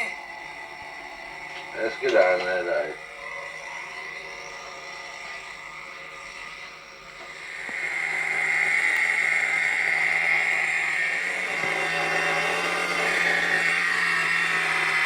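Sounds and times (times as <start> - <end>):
radio-controlled car drone: 0.0 - 15.0.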